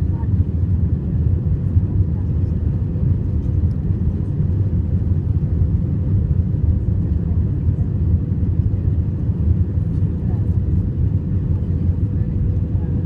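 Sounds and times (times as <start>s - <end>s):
aircraft engine and airflow rumble: 0.0s - 13.0s.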